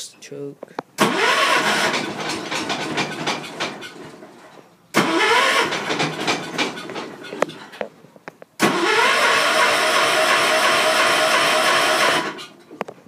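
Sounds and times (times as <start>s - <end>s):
tractor engine cranking: 1.0s - 7.9s, 8.6s - 12.8s.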